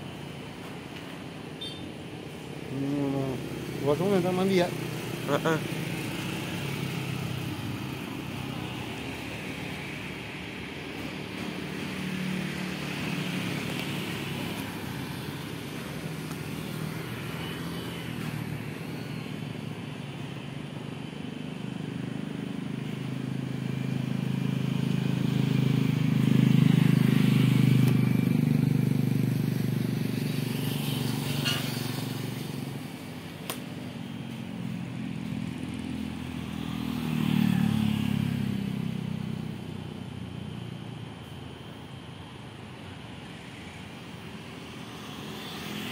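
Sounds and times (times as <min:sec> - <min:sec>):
road traffic rumble: 0:00.0 - 0:45.9.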